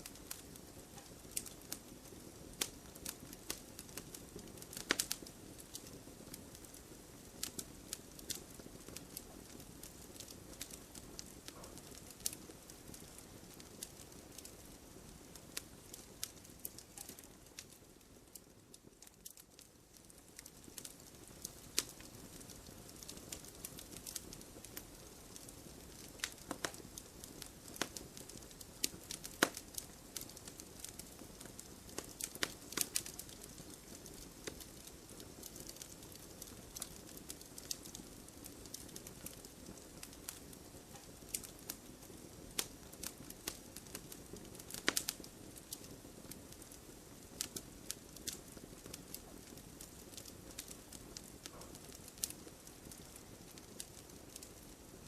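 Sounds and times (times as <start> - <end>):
soft steady hiss: 0.0 - 55.0
wood fire crackling and popping: 0.0 - 55.0.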